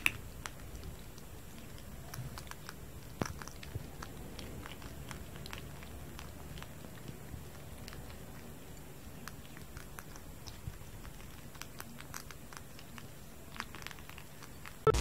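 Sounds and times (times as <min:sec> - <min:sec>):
kitten crunching dry kibble: 0:00.0 - 0:14.8
low room hum: 0:00.0 - 0:15.0.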